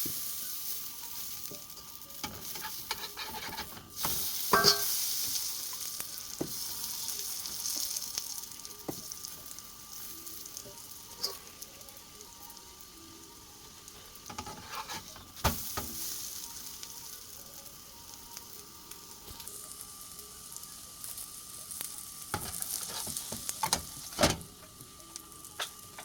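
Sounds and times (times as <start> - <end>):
oil sizzling on a griddle: 0.0 - 26.0.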